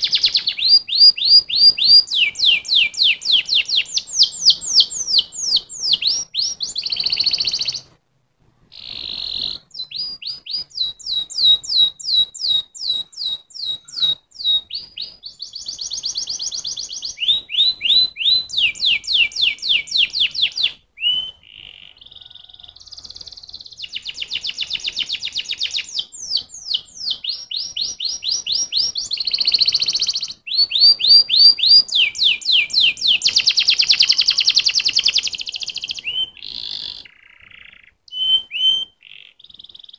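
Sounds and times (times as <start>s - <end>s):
canary singing: 0.0s - 8.0s, 8.7s - 39.9s.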